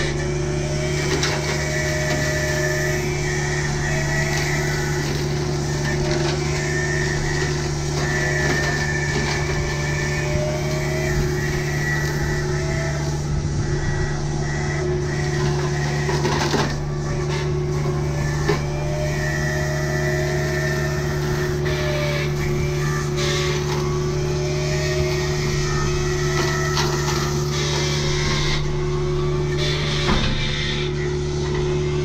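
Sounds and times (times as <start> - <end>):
diesel excavator engine running: 0.0 - 32.0
wavering high whine: 0.0 - 32.0.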